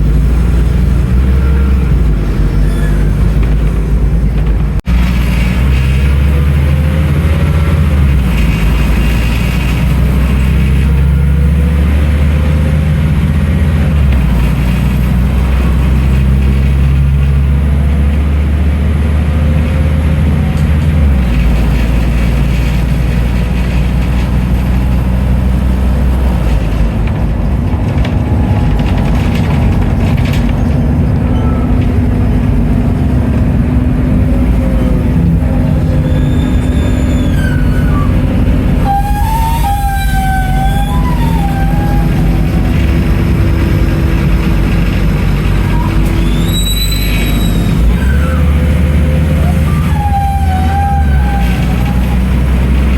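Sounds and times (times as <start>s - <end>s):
bus diesel engine running: 0.0s - 52.9s
gearbox whine: 0.0s - 52.9s.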